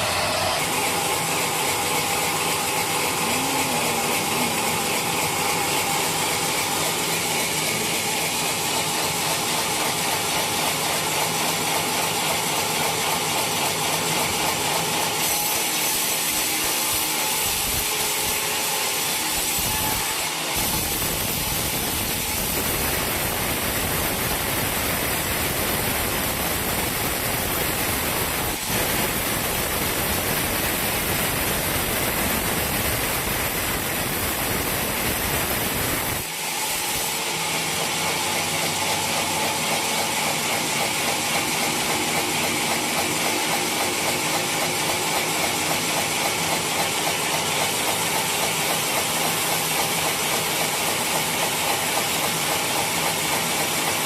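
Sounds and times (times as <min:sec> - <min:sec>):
machine running with fast pulse: 0:00.0 - 0:54.0
saw cutting through log: 0:00.0 - 0:54.0.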